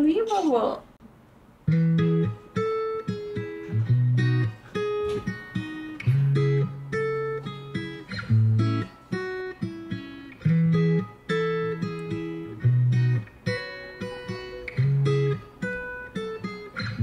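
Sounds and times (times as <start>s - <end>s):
plucked acoustic guitar: 1.6s - 17.0s.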